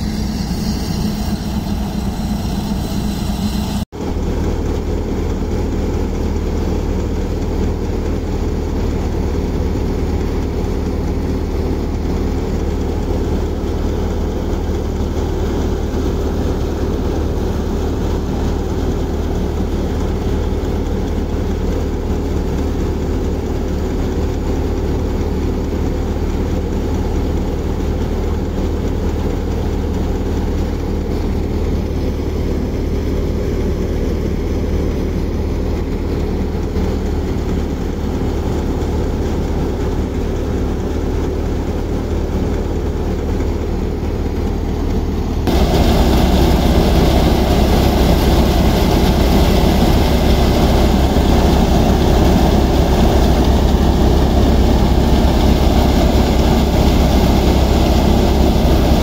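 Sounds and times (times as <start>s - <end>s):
grain thresher running: 0.0s - 59.0s
tractor engine under load: 0.0s - 59.0s.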